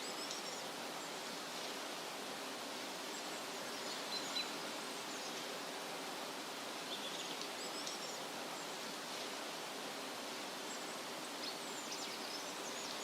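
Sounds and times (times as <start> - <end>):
wind rustling through trees: 0.0 - 13.0.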